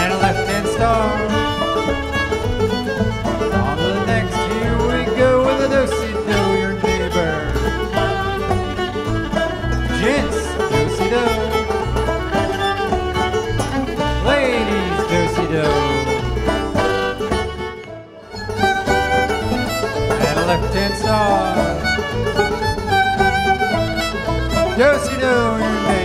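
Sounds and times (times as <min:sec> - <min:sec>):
fiddle: 0:00.0 - 0:26.0
string band playing dance tune: 0:00.0 - 0:26.0.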